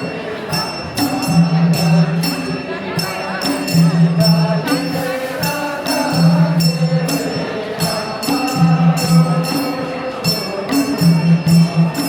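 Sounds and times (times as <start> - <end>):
jingling percussion beat: 0.0 - 12.0.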